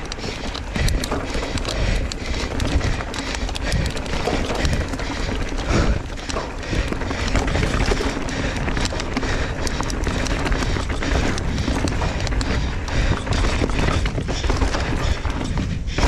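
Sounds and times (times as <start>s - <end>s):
bike clicking and rattling: 0.0s - 16.0s
bike tyre roar: 0.0s - 16.0s
rushing wind noise: 0.0s - 16.0s.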